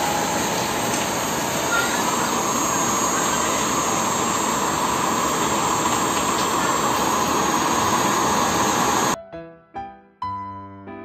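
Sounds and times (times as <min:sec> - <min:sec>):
hot-air blower running: 0:00.0 - 0:09.2.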